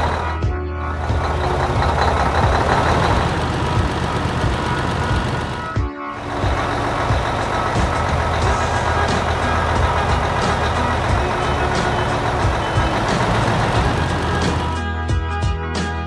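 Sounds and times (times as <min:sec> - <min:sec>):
combine harvester diesel engine: 0:00.0 - 0:15.0.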